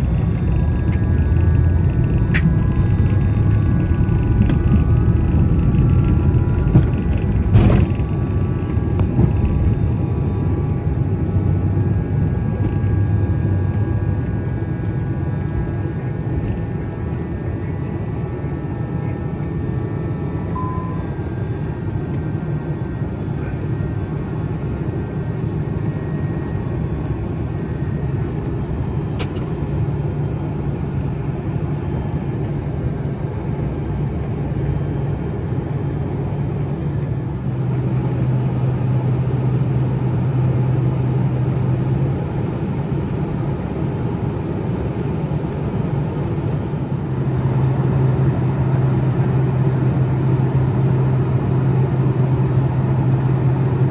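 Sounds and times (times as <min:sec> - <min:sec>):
jet engine drone: 0:00.0 - 0:53.9.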